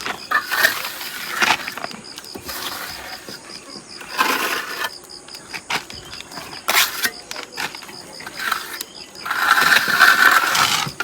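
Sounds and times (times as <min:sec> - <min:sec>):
trowel scraping mortar on brick: 0:00.0 - 0:11.0.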